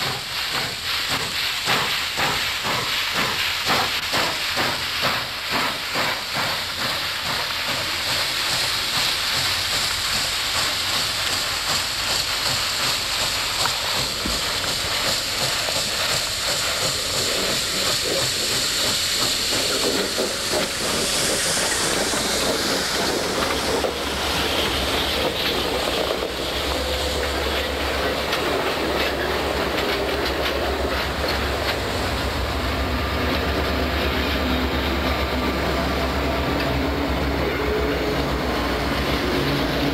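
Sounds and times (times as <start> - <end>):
diesel locomotive engine drone: 0.0 - 39.9
hissing steam: 0.0 - 39.9
steam locomotive exhaust chuffs: 0.0 - 39.9.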